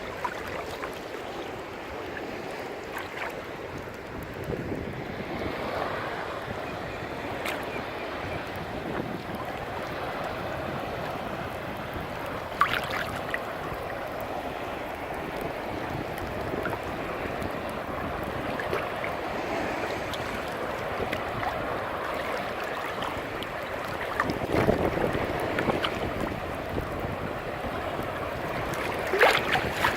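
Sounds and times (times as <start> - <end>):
ocean surf washing: 0.0 - 29.9
wind on microphone: 0.0 - 29.9.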